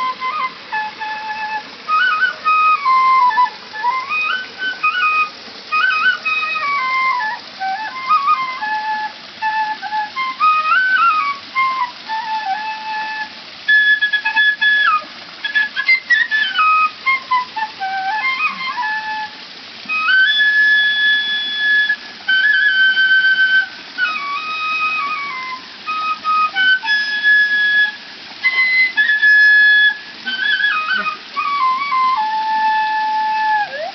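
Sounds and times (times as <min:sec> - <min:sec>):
bamboo flute melody: 0:00.0 - 0:33.9
steady background hiss: 0:00.0 - 0:33.9.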